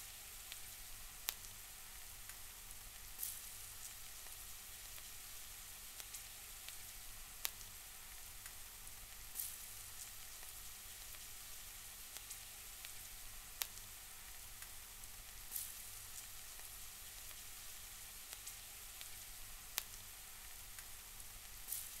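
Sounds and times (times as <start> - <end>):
stir-fry sizzling in a pan: 0.0 - 22.0.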